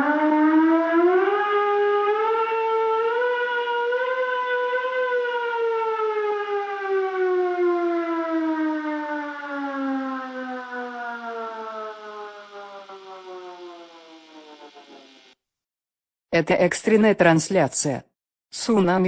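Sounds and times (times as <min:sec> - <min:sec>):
warning siren winding down: 0:00.0 - 0:15.4.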